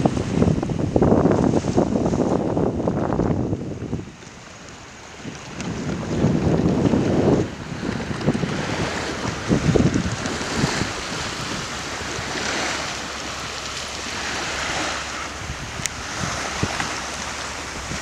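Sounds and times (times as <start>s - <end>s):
sea waves washing: 0.0s - 18.0s
wind buffeting microphone: 0.0s - 18.0s.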